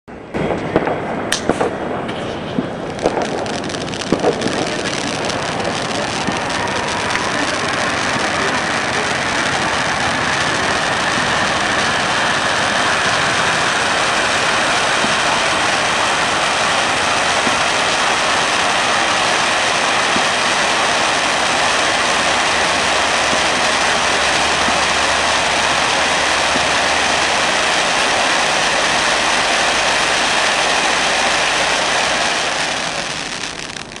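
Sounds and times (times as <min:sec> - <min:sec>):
spark fountain hissing: 0:03.0 - 0:34.0.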